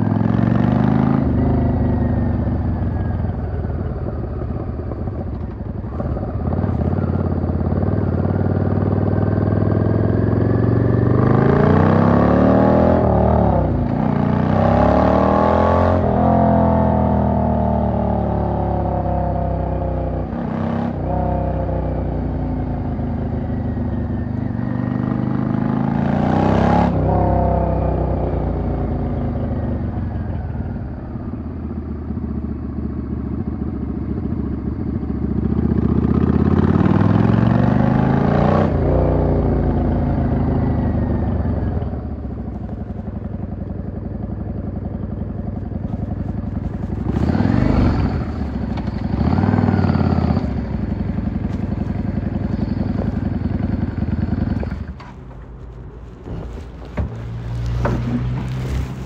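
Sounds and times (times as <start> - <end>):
motorcycle engine revving: 0.0 - 31.1, 31.8 - 59.0.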